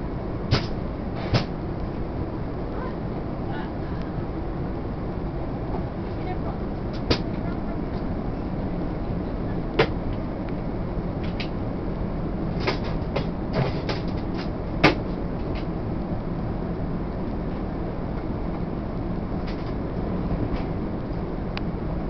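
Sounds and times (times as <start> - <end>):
airliner cabin noise: 0.0 - 22.0.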